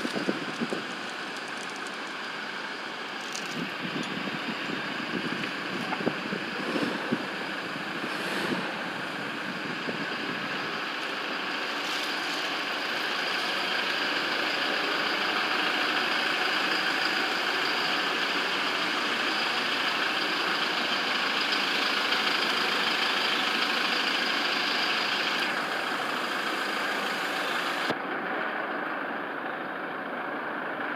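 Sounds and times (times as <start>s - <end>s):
pickup engine idling: 0.0s - 30.9s.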